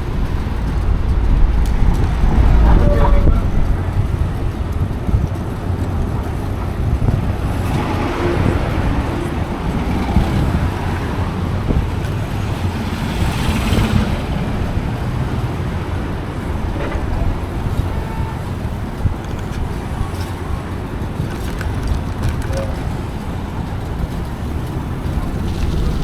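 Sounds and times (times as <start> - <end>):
vehicle passing close by: 0.0 - 22.1
city street traffic: 0.0 - 26.0
wind rumble on microphone: 0.0 - 26.0.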